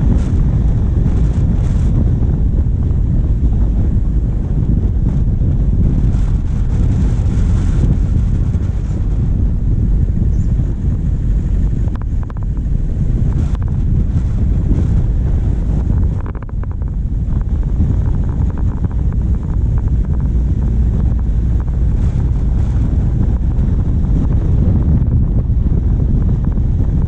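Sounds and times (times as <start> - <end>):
diesel vehicle driving: 0.0 - 27.0
wind buffeting microphone: 0.0 - 27.0.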